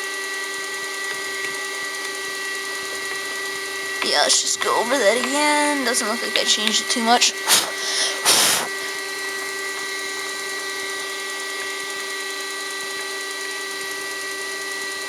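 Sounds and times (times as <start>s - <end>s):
milling machine humming and whining: 0.0s - 15.0s.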